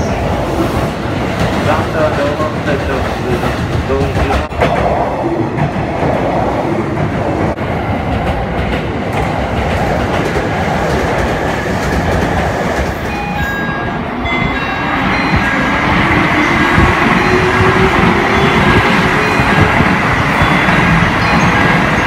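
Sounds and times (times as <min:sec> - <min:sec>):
electric train rumbling on tracks: 0:00.0 - 0:22.0.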